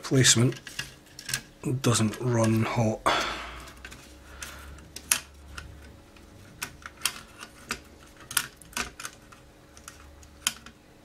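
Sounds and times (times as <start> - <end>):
metal and plastic parts clicking: 0.4 - 2.6, 3.6 - 10.8.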